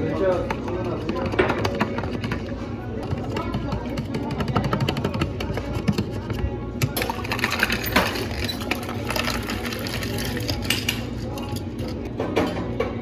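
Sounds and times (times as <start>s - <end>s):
utensils and containers clinking: 0.0s - 13.0s.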